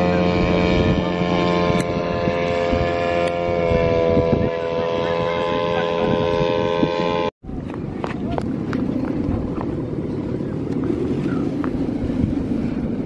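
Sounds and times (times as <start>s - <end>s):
kite hummers droning: 0.0s - 13.0s
wind rumble on microphone: 0.0s - 13.0s.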